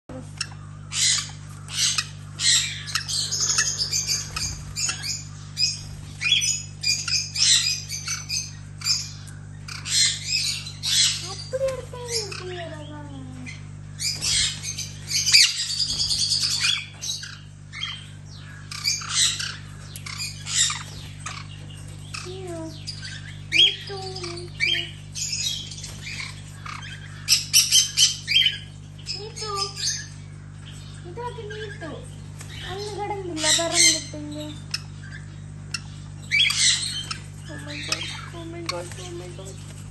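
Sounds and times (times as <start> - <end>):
steady low hum: 0.0 - 39.9
birds squawking: 0.1 - 39.9.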